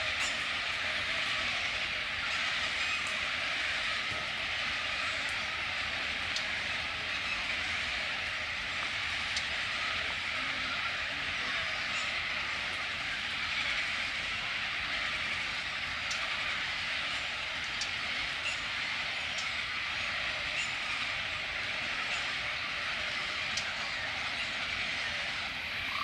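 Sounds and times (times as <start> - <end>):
frogs calling in chorus: 0.0 - 26.0.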